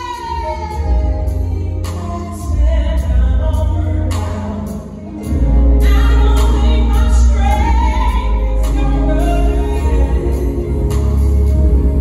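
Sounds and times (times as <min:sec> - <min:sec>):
woman singing into a microphone: 0:00.0 - 0:11.0
amplified gospel band: 0:00.0 - 0:12.0.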